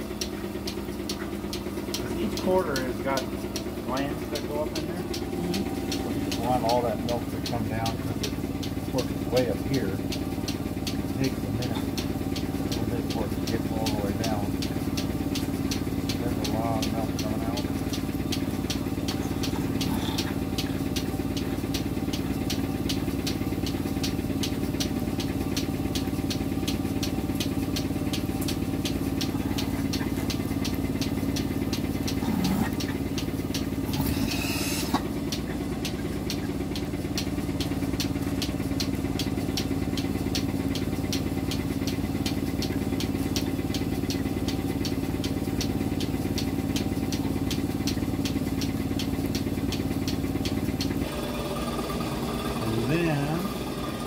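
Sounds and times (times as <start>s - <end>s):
milking machine pump hum: 0.0s - 54.0s
pulsator ticking: 0.0s - 54.0s.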